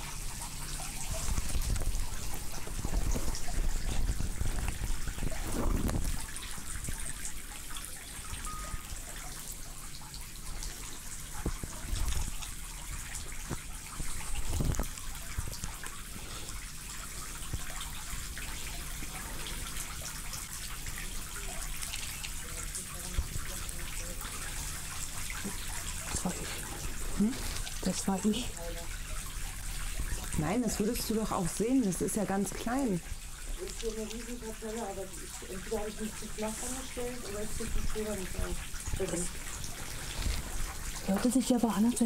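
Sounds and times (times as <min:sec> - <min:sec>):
trickling water noise: 0:00.0 - 0:42.0.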